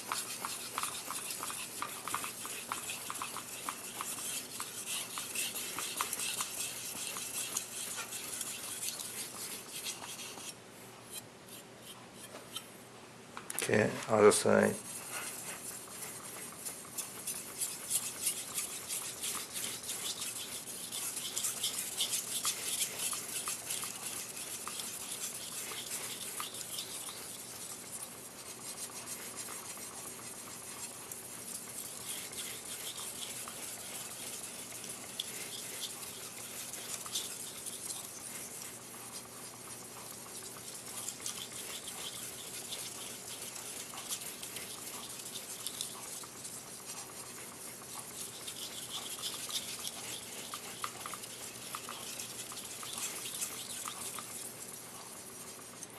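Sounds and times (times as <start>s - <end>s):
knife scraping on whetstone: 0.0s - 12.7s, 14.8s - 54.6s.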